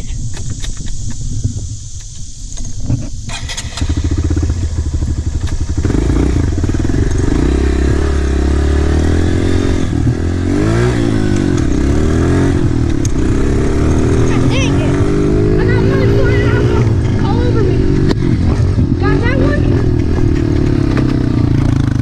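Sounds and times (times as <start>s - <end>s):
dirt bike engine revving: 3.3s - 22.0s.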